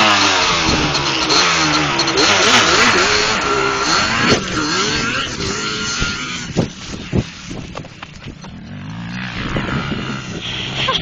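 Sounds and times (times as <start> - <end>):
atv engine revving: 0.0 - 7.8, 8.4 - 11.0.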